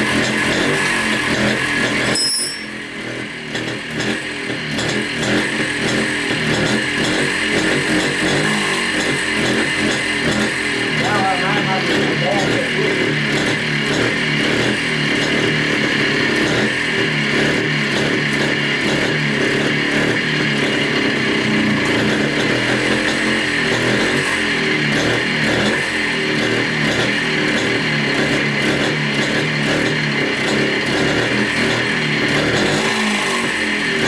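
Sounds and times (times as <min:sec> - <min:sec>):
two-stroke engine running: 0:00.0 - 0:34.0.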